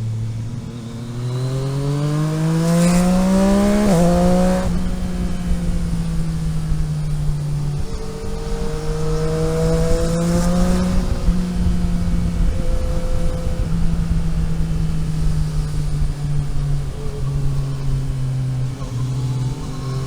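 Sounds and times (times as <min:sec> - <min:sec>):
vehicle engine accelerating: 0:00.0 - 0:20.0.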